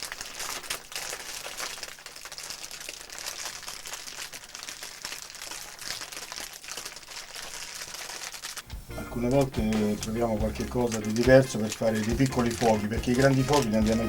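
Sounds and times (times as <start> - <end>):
paper crumpling and crackling: 0.0 - 14.0.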